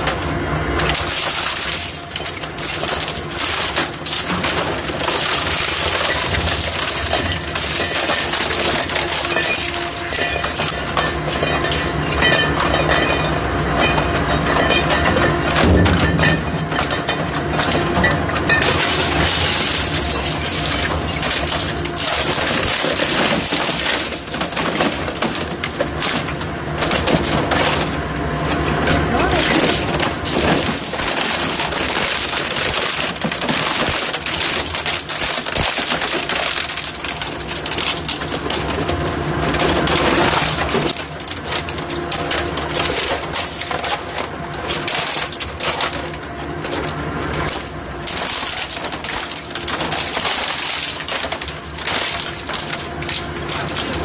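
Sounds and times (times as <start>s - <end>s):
shredder crunching plastic and metal: 0.0s - 54.0s
steady machine hum: 0.0s - 54.0s.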